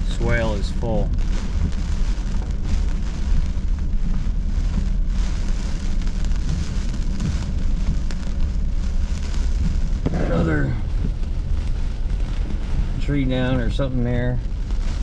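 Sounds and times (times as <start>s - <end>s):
heavy rain on a car: 0.0s - 15.0s
moving car rumble: 0.0s - 15.0s
wind: 0.0s - 15.0s.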